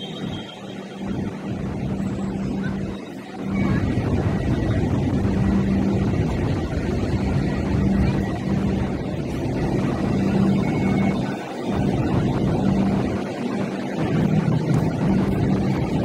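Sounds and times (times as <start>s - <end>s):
light rail vehicle electric hum: 0.0s - 16.0s
wind on microphone: 0.0s - 16.0s.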